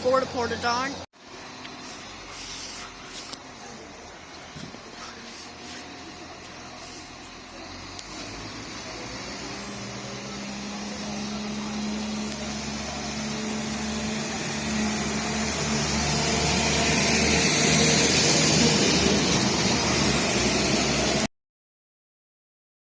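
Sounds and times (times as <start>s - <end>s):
diesel engine hum: 0.0s - 21.3s
wheel and rail noise: 0.0s - 21.3s.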